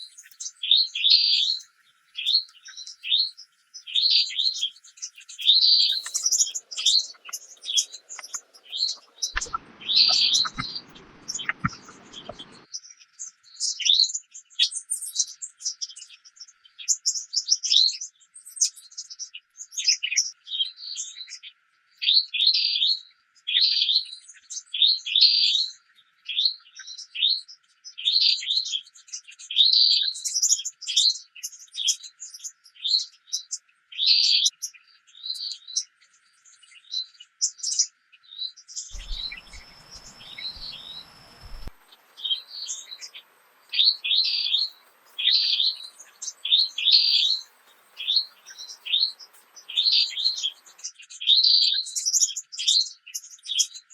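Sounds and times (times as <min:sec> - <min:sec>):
small birds chirping: 0:00.0 - 0:23.0, 0:23.6 - 0:53.9.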